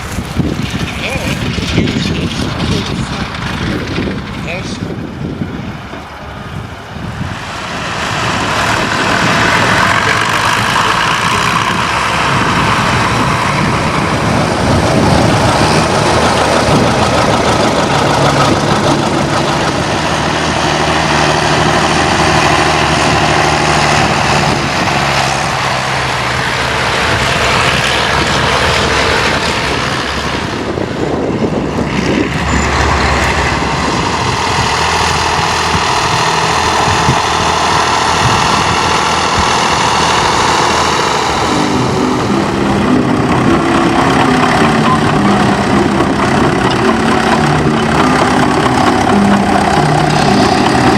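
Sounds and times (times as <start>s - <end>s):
heavy farm machine engine running: 0.0s - 50.9s.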